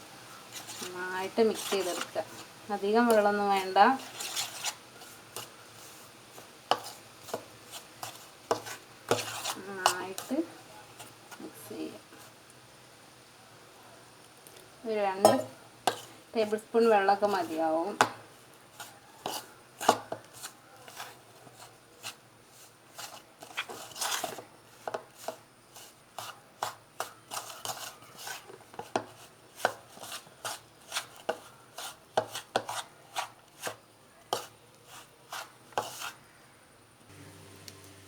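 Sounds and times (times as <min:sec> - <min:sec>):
spoon mixing thick batter: 0:00.4 - 0:12.4, 0:15.2 - 0:36.2.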